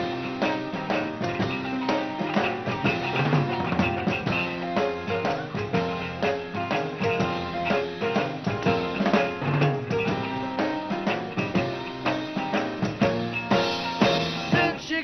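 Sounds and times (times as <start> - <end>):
bass guitar: 0.0 - 15.0
drum kit beat: 0.0 - 15.0
electric guitar: 0.0 - 15.0
piano: 0.0 - 15.0.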